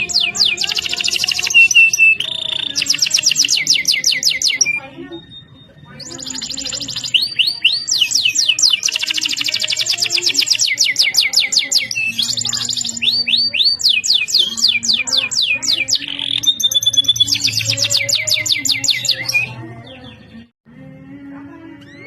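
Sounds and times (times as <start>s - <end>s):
canary singing trills: 0.0s - 20.5s.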